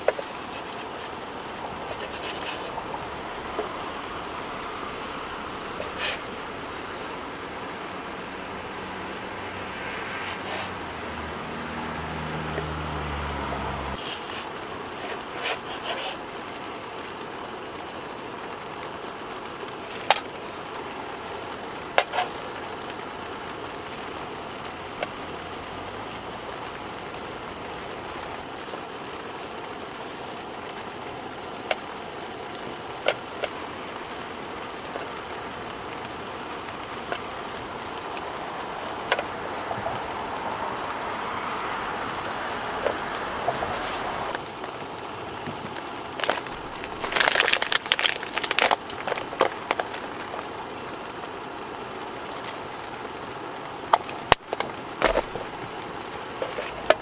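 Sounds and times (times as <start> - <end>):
steady rushing background noise: 0.0 - 57.0.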